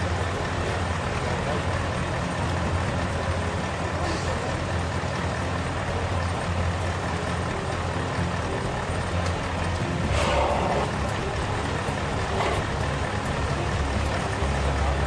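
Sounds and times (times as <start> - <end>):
bus diesel engine at low revs: 0.0 - 15.0.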